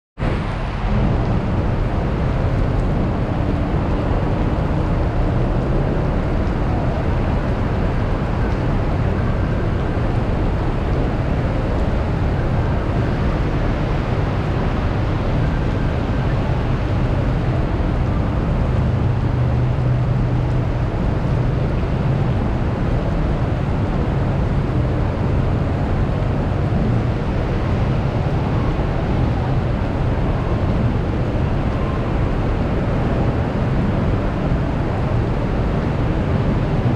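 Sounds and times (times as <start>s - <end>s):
heavy rain: 0.2s - 36.9s.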